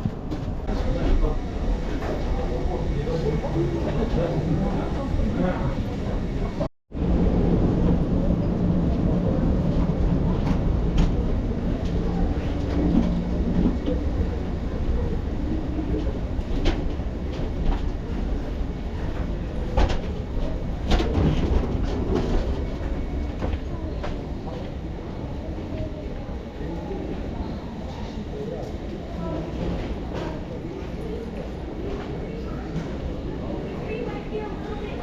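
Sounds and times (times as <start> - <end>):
train carriage rumble: 0.0 - 35.0.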